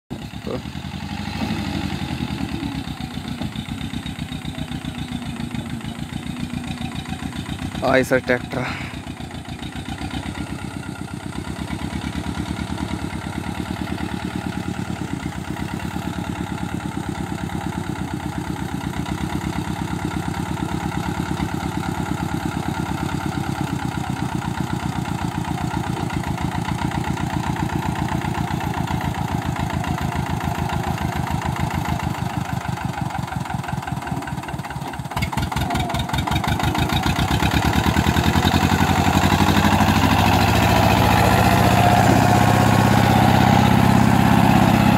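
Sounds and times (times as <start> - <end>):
tractor diesel engine under load: 0.1 - 44.9.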